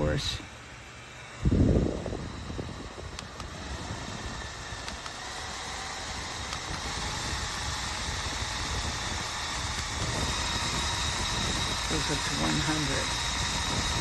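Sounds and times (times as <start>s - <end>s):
handheld fan running: 0.0s - 14.0s.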